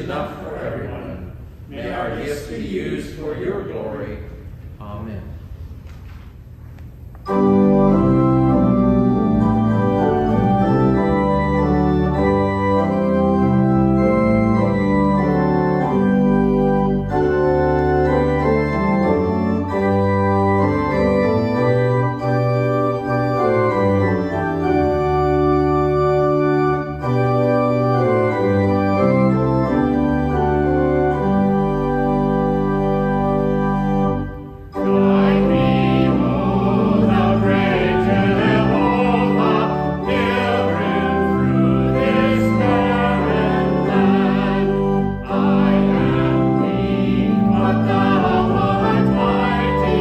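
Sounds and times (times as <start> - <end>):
church organ chords: 0.0 - 4.5, 7.2 - 50.0.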